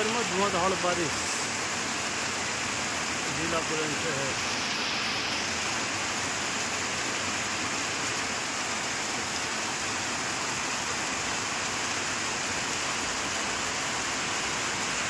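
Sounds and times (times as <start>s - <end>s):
heavy rain on ground and leaves: 0.0s - 15.0s.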